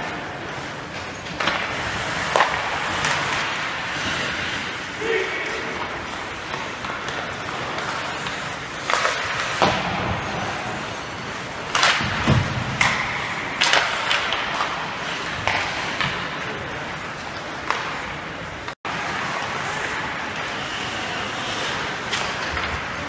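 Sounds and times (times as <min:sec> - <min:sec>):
hockey sticks and puck cracking: 0:00.0 - 0:23.0
rink background hum: 0:00.0 - 0:23.0.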